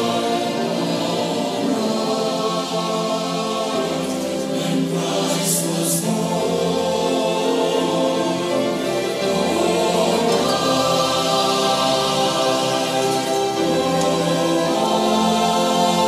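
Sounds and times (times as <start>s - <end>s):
mixed choir singing: 0.0s - 16.0s
orchestral accompaniment: 0.0s - 16.0s.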